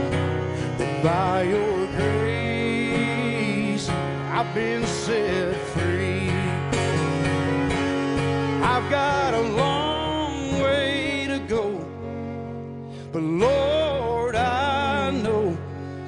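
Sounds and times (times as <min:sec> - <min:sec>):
fiddle melody: 0:00.0 - 0:16.0
strummed acoustic guitars: 0:00.0 - 0:16.0.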